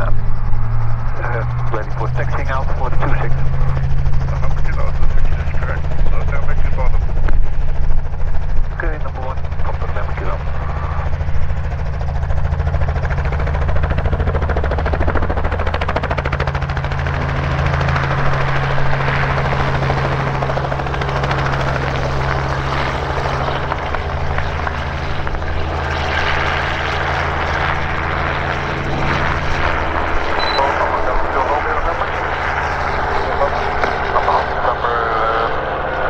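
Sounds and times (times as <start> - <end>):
helicopter engine and rotor drone: 0.0 - 36.0.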